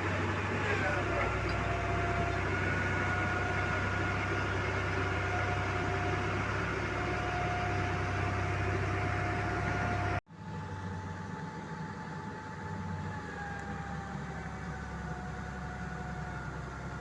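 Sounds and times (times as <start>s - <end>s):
engine running with faint whine: 0.0s - 17.0s.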